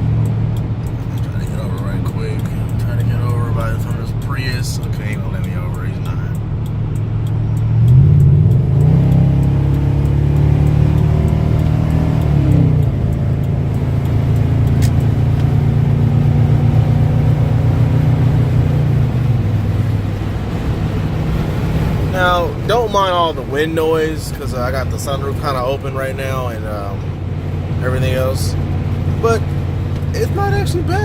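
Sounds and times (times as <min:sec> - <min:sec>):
car exhaust drone inside cab: 0:00.0 - 0:31.0.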